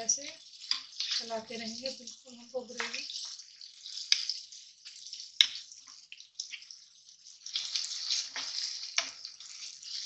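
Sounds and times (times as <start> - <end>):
spatula scraping a pan: 0.0 - 1.8, 2.8 - 10.0
sauce sizzling in a pan: 0.0 - 10.0
spatula stirring and mashing: 0.0 - 10.0.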